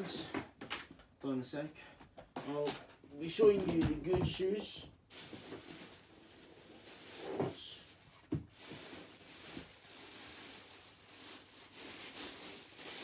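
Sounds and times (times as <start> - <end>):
rustling and knocking of shoes and bags: 2.0 - 13.0.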